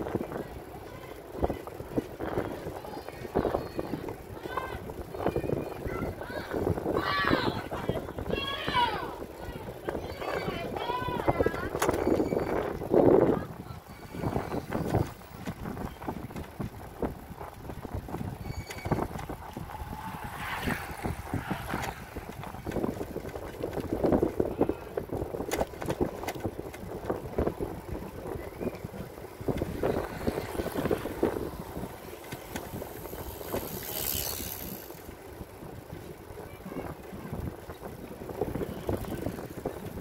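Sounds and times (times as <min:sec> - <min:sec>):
bicycle rattling over pavement: 0:00.0 - 0:40.0
wind noise on microphone: 0:00.0 - 0:40.0.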